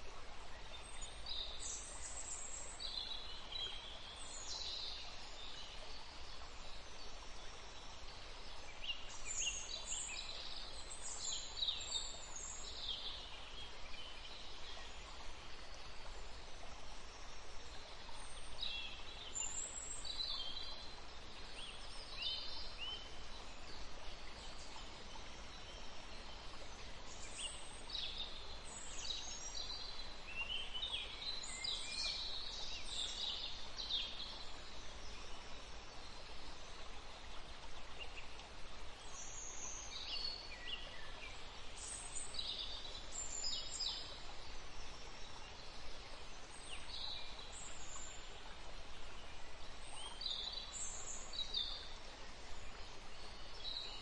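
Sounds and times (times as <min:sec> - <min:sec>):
faint hiss: 0:00.0 - 0:54.0.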